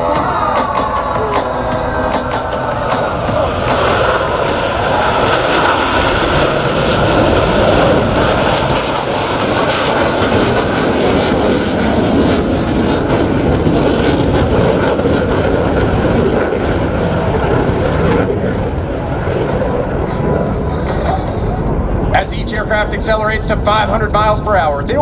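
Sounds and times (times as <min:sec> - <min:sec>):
jet fighters roaring: 0:00.0 - 0:25.0.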